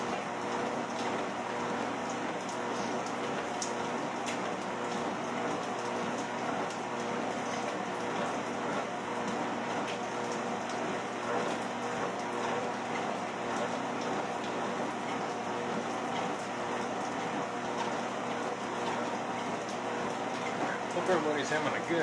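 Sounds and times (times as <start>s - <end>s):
treadmill motor hum: 0.0s - 22.0s.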